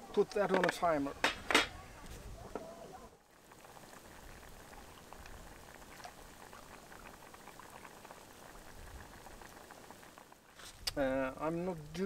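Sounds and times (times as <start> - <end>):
water boiling with bubbles popping: 0.0 - 12.0.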